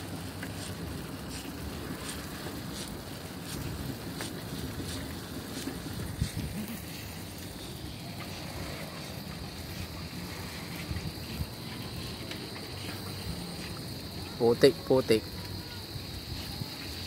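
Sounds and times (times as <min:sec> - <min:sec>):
tyre rumble on wet concrete: 0:00.0 - 0:14.4
wind buffeting microphone: 0:00.0 - 0:14.4, 0:15.4 - 0:17.0.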